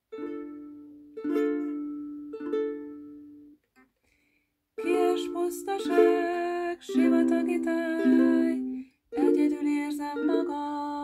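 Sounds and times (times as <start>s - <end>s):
plucked string instrument strumming: 0.1s - 3.6s, 4.8s - 11.0s.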